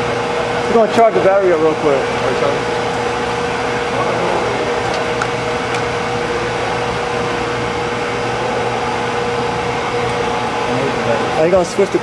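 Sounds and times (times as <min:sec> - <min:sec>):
machine whirring and humming: 0:00.0 - 0:12.0.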